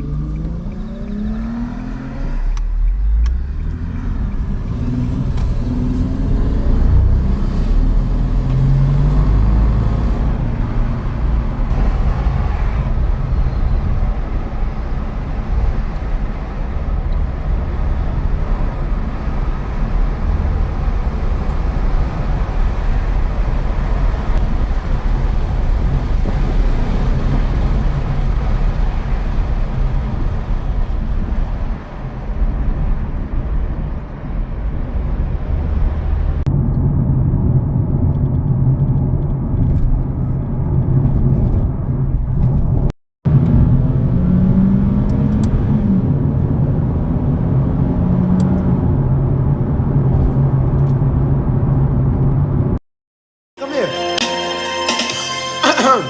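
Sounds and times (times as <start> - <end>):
car engines rumbling: 0.0 - 52.8.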